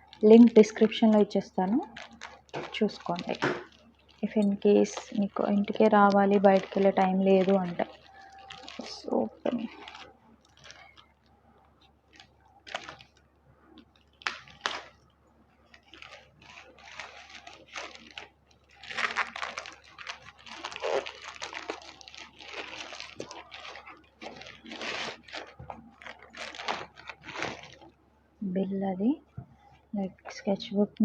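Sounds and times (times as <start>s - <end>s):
crinkly packaging tearing: 0.0s - 11.1s, 12.0s - 13.2s, 13.8s - 15.0s, 15.6s - 28.0s.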